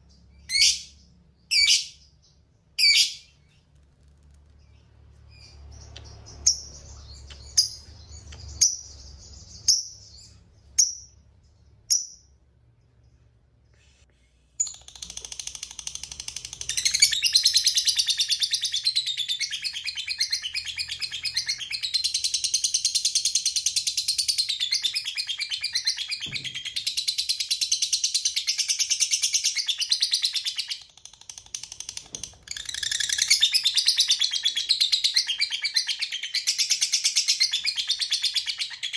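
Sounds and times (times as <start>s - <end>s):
lovebird chirping and trilling: 0.0s - 3.6s, 4.6s - 12.3s, 14.6s - 38.9s.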